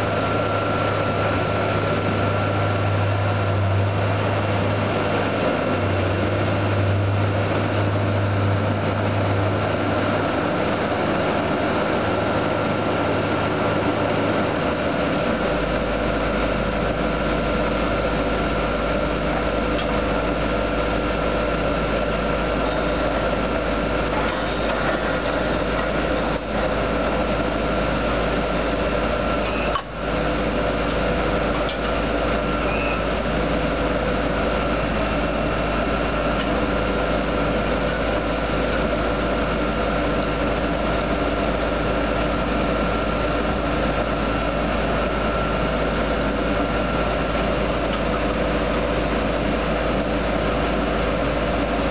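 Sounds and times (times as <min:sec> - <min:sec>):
drilling equipment engines droning: 0:00.0 - 0:51.9
high whine: 0:00.0 - 0:51.9.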